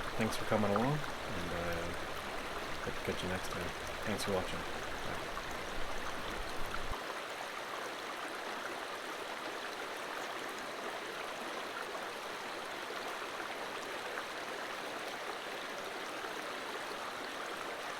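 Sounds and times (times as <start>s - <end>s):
creek water flowing over rocks: 0.0s - 17.9s.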